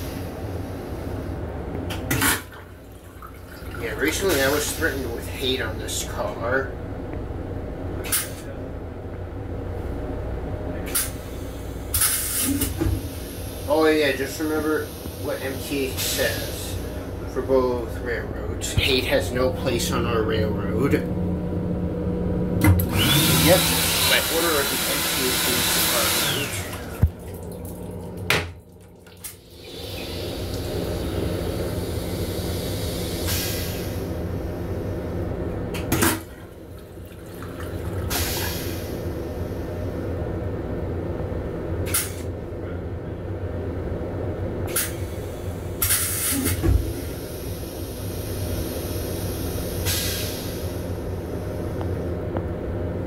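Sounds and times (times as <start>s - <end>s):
railcar hum and rumble: 0.0s - 23.1s, 29.4s - 53.0s.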